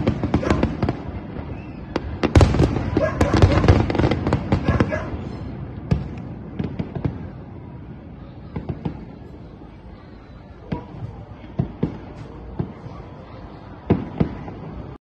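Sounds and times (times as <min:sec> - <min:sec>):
distant fireworks bangs: 0:00.0 - 0:15.0.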